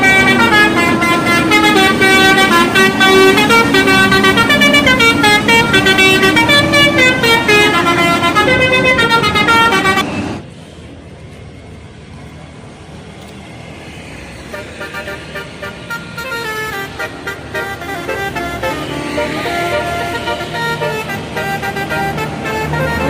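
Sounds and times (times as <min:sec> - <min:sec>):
air horns playing a tune: 0:00.0 - 0:10.4, 0:14.5 - 0:23.0
street noise: 0:00.0 - 0:23.0.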